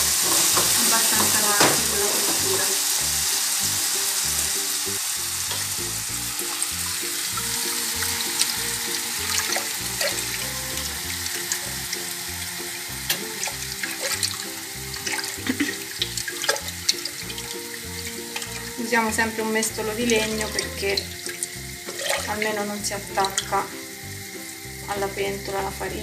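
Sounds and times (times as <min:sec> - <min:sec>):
background music: 0:00.0 - 0:26.0
mushrooms sizzling in a frying pan: 0:00.0 - 0:26.0.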